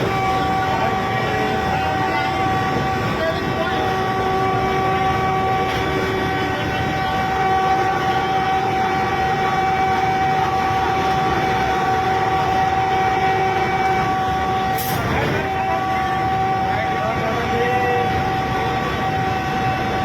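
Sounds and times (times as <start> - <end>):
train horn: 0.0 - 20.0
train running rumble: 0.0 - 20.0.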